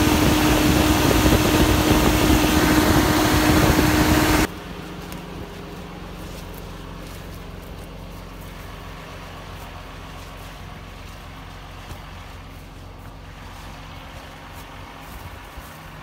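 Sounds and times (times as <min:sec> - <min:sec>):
farm vehicle engine humming: 0:00.0 - 0:16.0.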